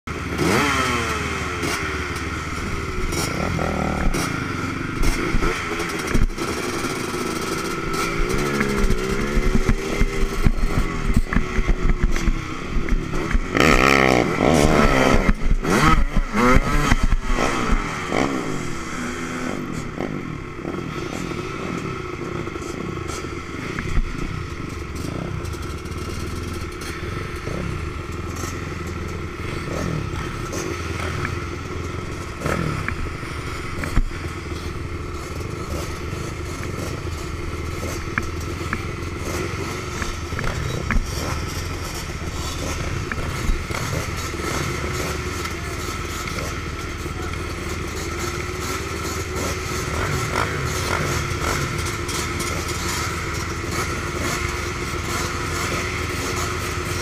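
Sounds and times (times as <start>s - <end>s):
engine revving: 0.1s - 57.0s.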